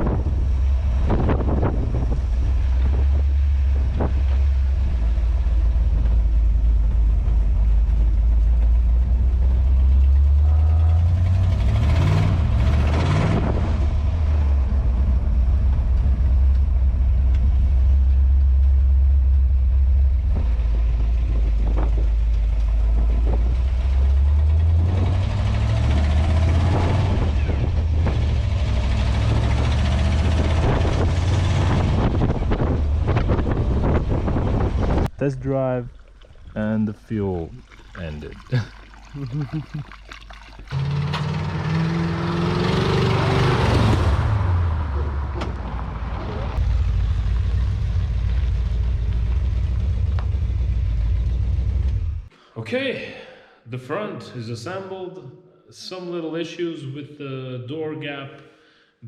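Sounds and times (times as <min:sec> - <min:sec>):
car engine rumbling: 0:00.0 - 0:52.4.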